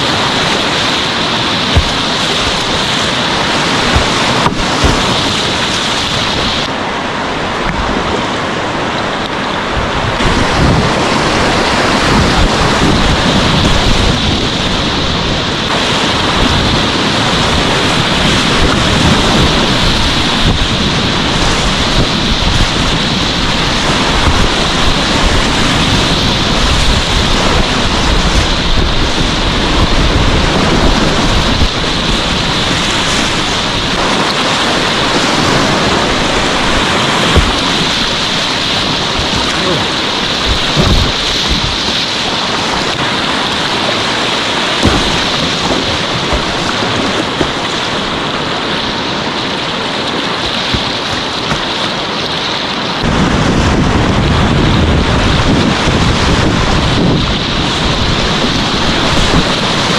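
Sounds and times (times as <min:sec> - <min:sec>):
whitewater rapids rushing: 0:00.0 - 0:59.9
wind buffeting microphone: 0:00.0 - 0:59.9.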